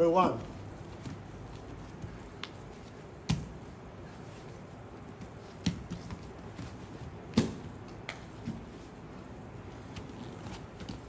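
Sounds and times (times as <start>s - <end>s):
bodies thumping on foam mats: 0.6s - 9.0s, 9.7s - 11.0s.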